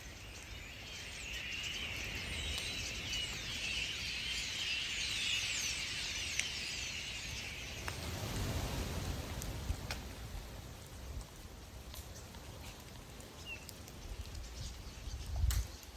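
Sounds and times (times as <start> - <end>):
flock of birds chirping: 0.0 - 15.9.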